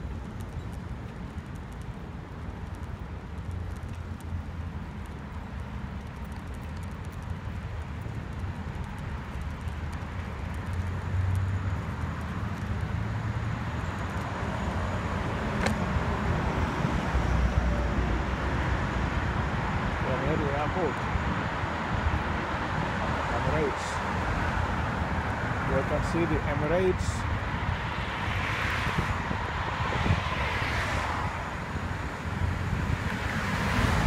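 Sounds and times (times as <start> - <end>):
hum of passing cars: 0.0 - 34.0.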